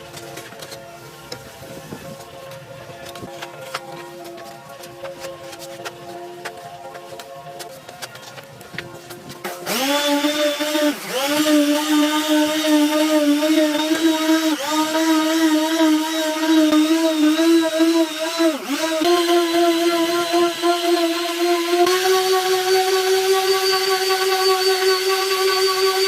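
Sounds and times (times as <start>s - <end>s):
electric power tool whining: 3.0s - 26.0s.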